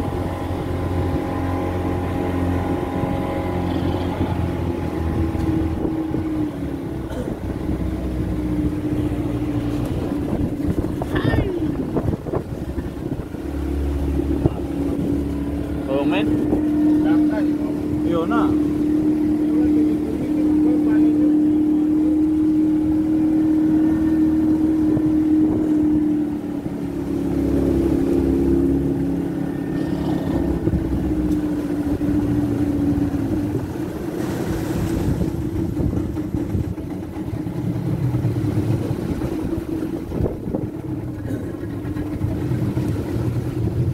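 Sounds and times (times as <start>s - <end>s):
choppy water: 0.0s - 43.9s
motorboat engine running: 0.0s - 43.9s.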